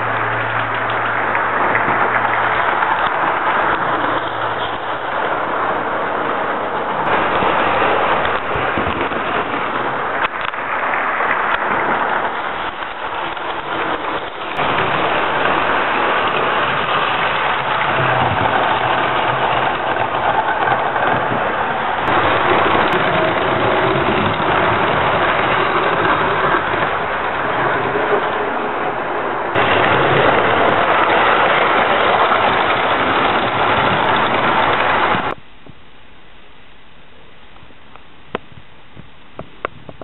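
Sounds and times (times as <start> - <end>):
model trains whirring on rails: 0.0 - 35.4.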